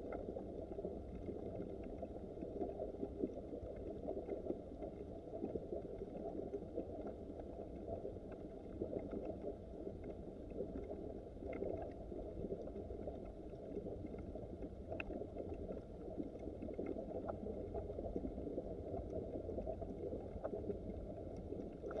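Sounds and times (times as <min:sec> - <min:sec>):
faint ticks: 0:00.0 - 0:22.0.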